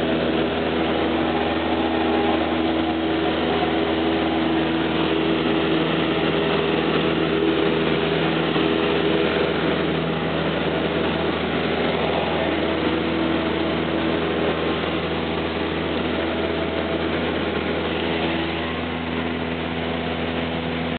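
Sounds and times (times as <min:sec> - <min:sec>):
airplane engine and propeller: 0:00.0 - 0:20.9.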